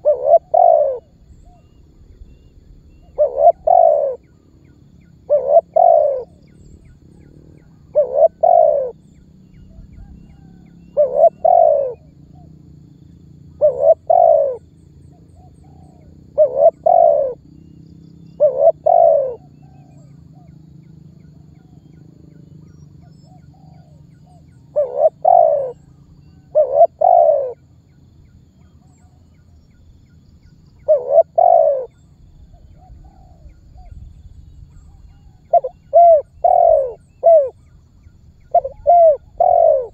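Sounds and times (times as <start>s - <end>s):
dove cooing: 0.0s - 1.8s, 2.9s - 4.4s, 5.2s - 12.6s, 13.5s - 27.8s, 30.8s - 34.1s, 34.7s - 37.8s, 38.4s - 39.9s.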